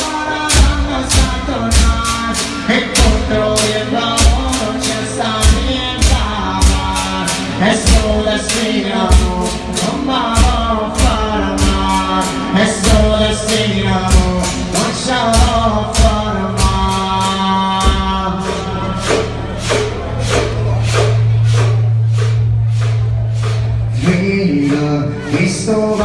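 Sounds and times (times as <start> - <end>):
people singing: 0.0 - 21.5
wooden barrels beaten as drums: 0.0 - 26.0.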